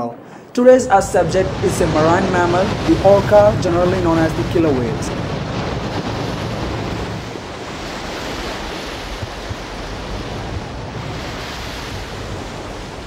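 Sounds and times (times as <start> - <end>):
surf washing over pebbles: 0.7 - 13.0.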